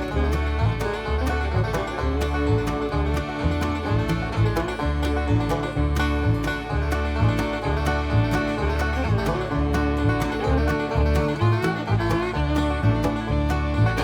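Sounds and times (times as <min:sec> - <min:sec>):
bluegrass music with banjo: 0:00.0 - 0:14.0.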